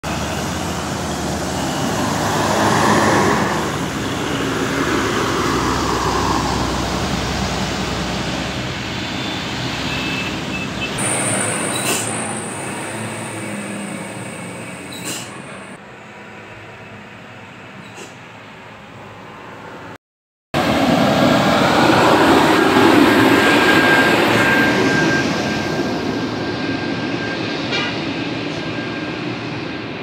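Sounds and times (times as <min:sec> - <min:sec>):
bus passing: 0:00.0 - 0:20.0, 0:20.6 - 0:30.0
heavy vehicle traffic: 0:00.0 - 0:20.0, 0:20.6 - 0:30.0.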